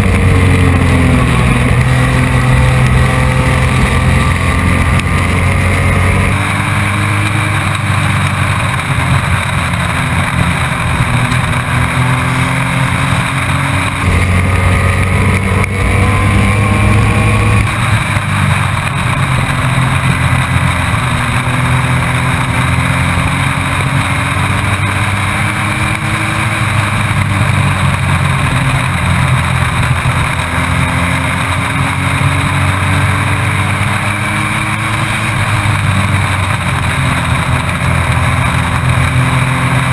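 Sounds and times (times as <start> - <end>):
truck engine revving under load: 0.0 - 39.9.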